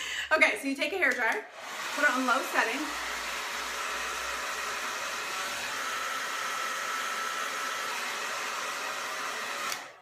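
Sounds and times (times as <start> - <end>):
hair dryer blowing air: 1.1 - 10.0.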